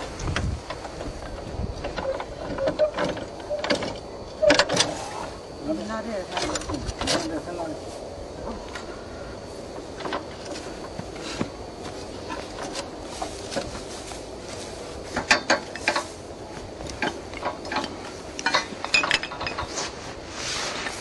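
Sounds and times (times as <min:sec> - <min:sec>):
drilling rig clicking and clanking: 0:00.0 - 0:05.4, 0:06.2 - 0:07.4, 0:09.7 - 0:20.0.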